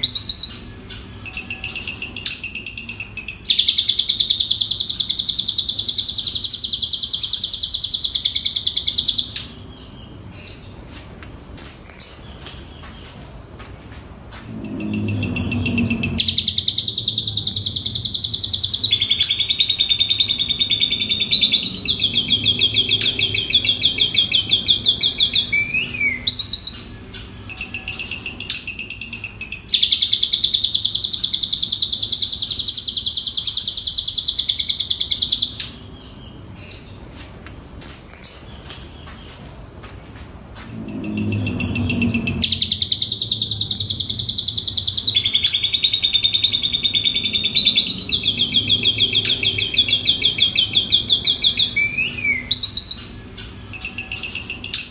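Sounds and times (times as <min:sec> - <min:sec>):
starling chattering trilling song: 0:00.0 - 0:09.6, 0:14.4 - 0:35.9, 0:40.6 - 0:54.9.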